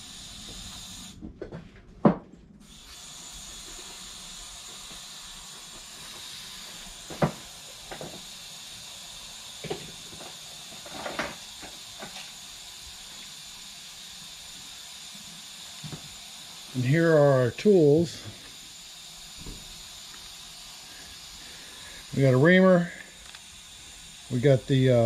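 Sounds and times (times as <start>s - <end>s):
air hissing out of tire valve: 0.0s - 1.2s, 2.6s - 25.0s.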